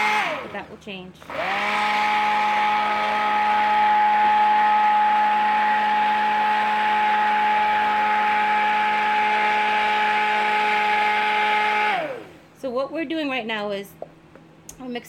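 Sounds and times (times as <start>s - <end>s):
stick blender running: 0.0s - 12.5s.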